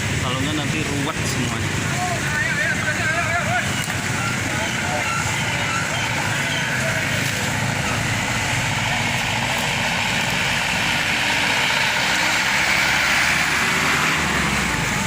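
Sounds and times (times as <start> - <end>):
motorbike and car engines idling: 0.0 - 15.0.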